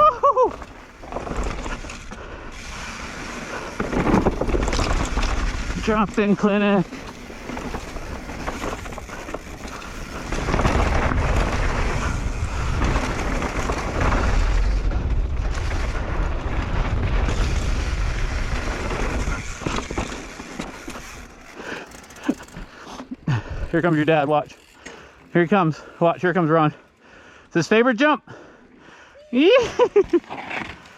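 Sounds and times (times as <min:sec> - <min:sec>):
bike tyres rumbling on dirt: 0:00.0 - 0:27.2.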